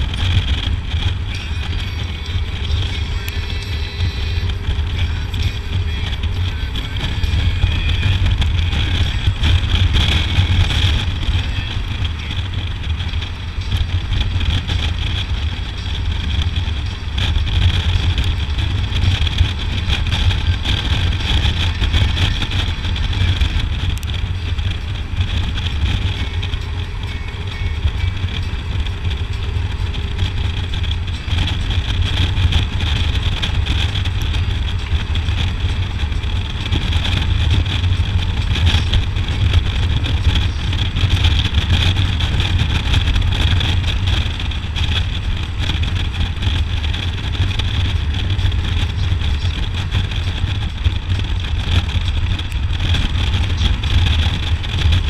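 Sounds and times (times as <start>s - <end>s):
motorcycle engine running: 0.0s - 55.0s
wind on microphone: 0.0s - 55.0s.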